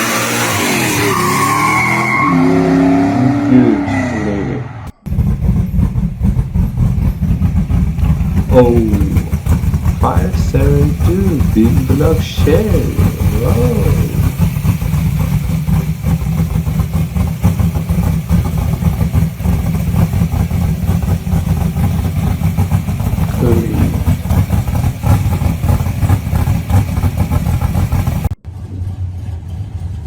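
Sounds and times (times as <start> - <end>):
quieter engine running: 4.9 - 30.0
loud engine idling: 5.0 - 30.0.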